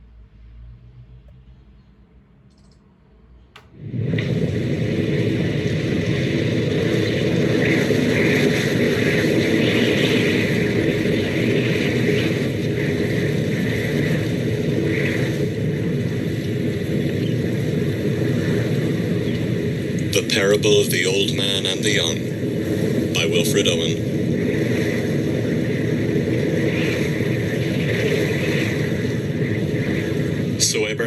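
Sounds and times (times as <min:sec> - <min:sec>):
blizzard wind rushing: 0:03.6 - 0:31.0.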